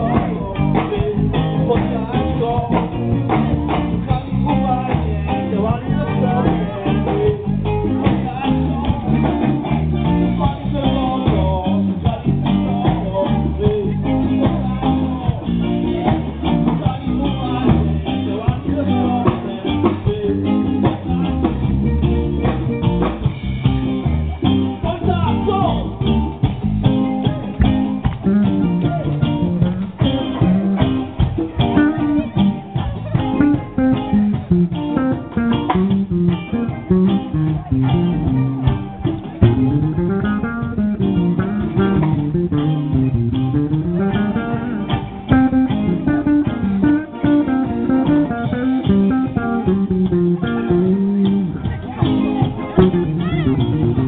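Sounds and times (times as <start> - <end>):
live band with electric guitar: 0.0 - 54.0.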